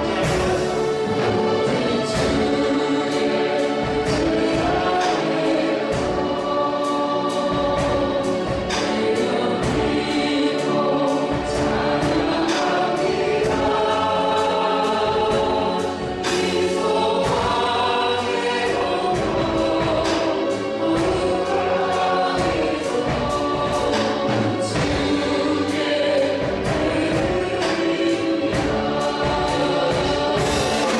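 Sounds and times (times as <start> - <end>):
band with steady drum beat: 0.0 - 30.9
group singing worship song: 0.0 - 30.9.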